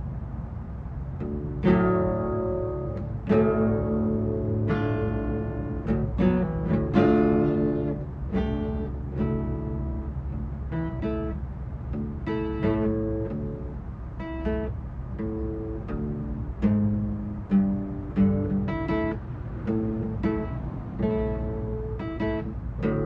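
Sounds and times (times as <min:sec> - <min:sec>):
acoustic guitar chords: 0:00.8 - 0:23.0.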